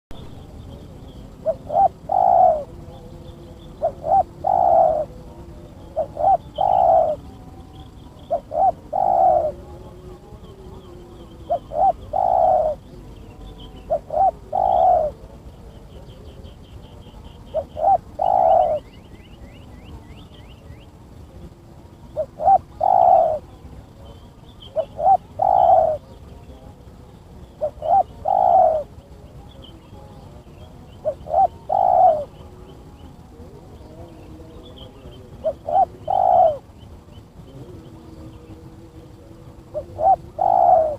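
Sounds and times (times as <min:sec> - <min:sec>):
dove cooing: 0:00.1 - 0:40.9.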